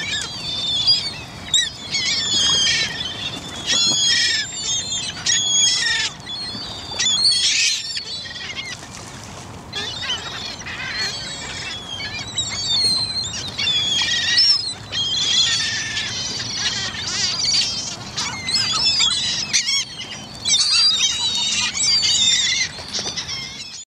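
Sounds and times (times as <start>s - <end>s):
gulls squawking: 0.0s - 23.8s.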